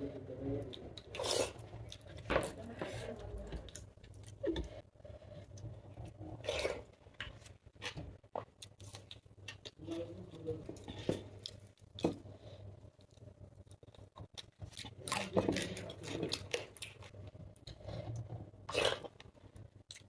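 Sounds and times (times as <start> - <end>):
person chewing food: 0.6 - 9.8, 10.8 - 20.0.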